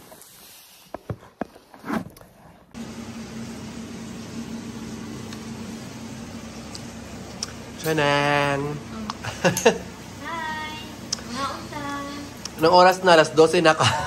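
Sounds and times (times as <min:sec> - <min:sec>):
low mechanical hum: 0:02.7 - 0:14.0.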